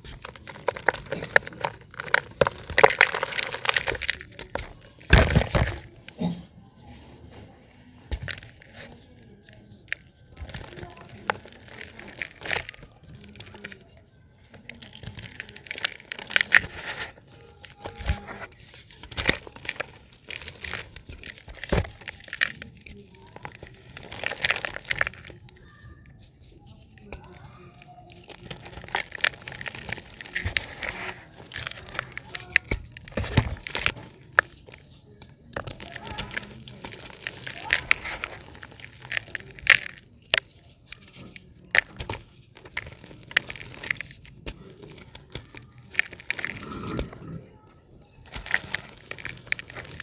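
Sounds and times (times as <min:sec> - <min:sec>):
dried dirt crumbling by hand: 0:00.0 - 0:50.0.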